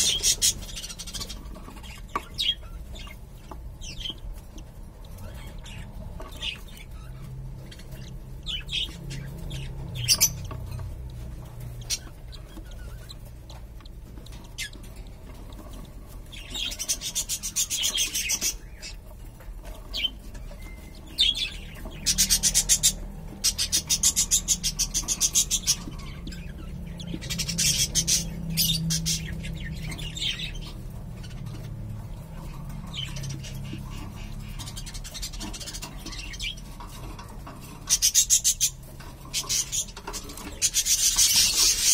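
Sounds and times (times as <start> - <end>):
chicks raspy begging calls: 0.0 - 41.9.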